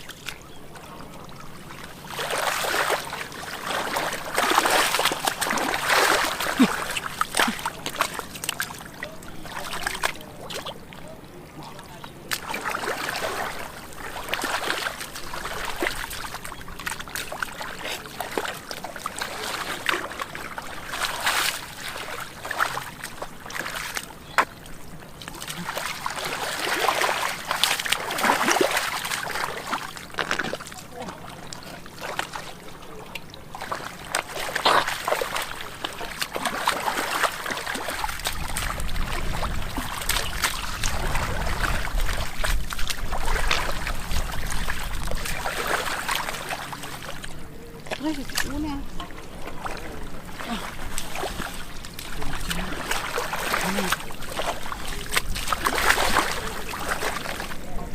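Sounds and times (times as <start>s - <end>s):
muddy water splashing and sloshing: 0.0s - 57.9s.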